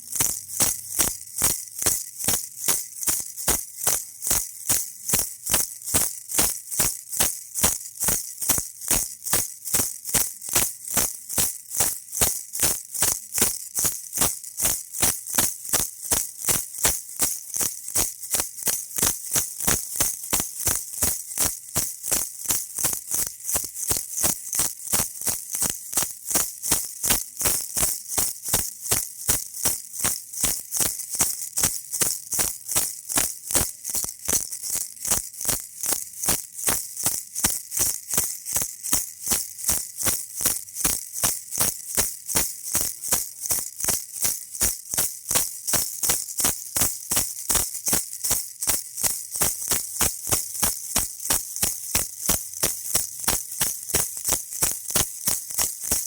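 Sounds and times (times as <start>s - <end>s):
baby rattle shaking: 0.0s - 56.0s.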